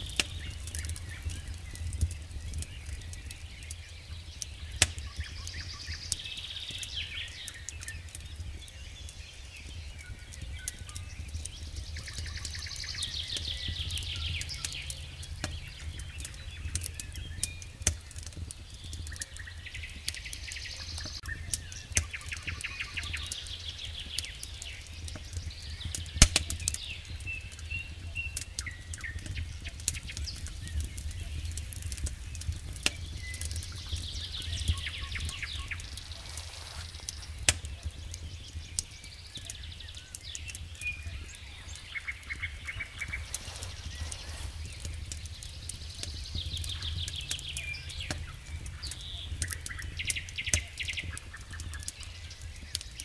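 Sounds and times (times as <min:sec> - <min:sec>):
campfire crackling and popping: 0:00.0 - 0:53.0
songbirds trilling and chirping: 0:00.0 - 0:53.0.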